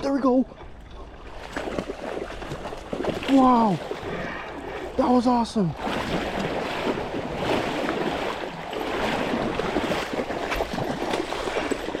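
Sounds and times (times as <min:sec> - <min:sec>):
water splashing: 0:00.0 - 0:12.0
creek water rushing: 0:01.0 - 0:12.0.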